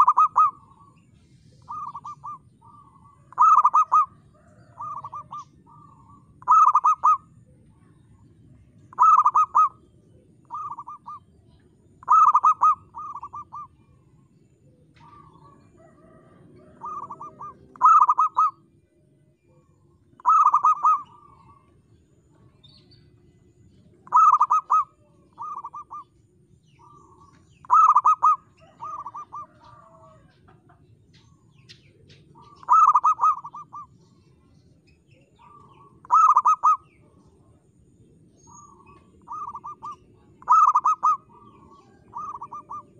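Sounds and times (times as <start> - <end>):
dove cooing: 0.0 - 18.6, 19.5 - 22.5, 24.0 - 31.4, 32.1 - 34.2, 35.2 - 37.7, 38.5 - 42.9.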